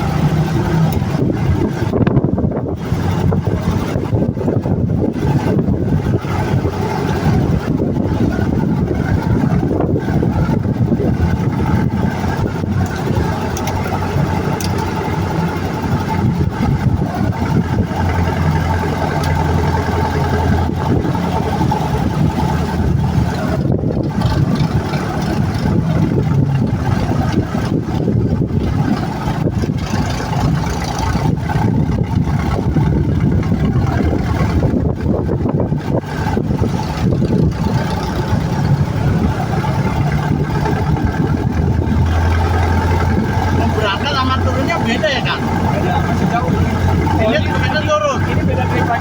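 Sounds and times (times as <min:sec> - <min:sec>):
vehicle engine running: 0:00.0 - 0:49.0.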